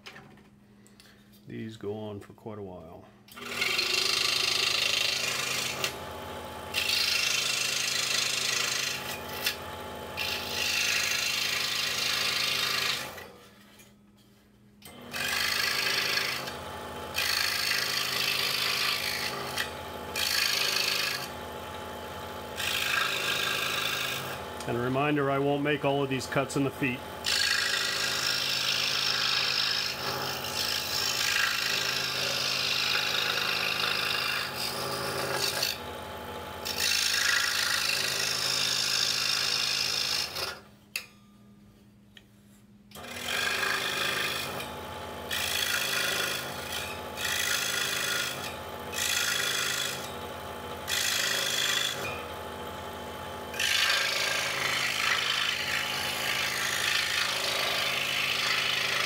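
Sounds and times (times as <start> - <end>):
scroll saw cutting wood: 3.3 - 13.4, 14.8 - 35.9, 36.6 - 40.6, 42.9 - 59.0.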